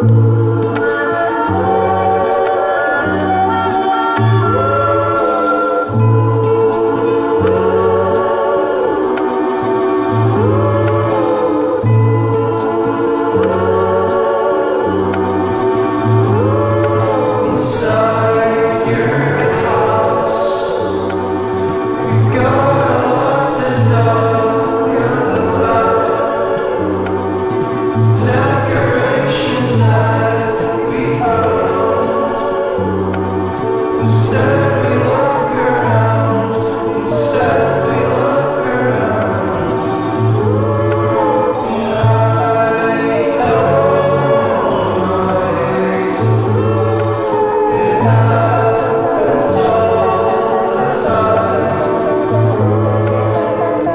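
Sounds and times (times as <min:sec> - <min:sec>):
choir singing slow chords: 0:00.0 - 0:53.9.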